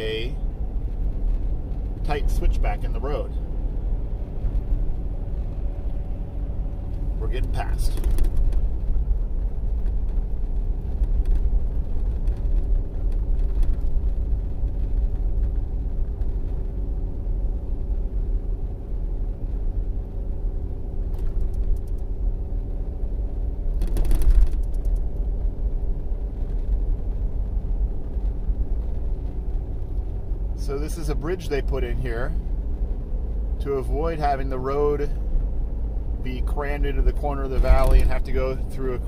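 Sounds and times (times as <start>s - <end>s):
rush of road noise: 0.0s - 39.0s
van engine and tyre rumble: 0.0s - 39.0s.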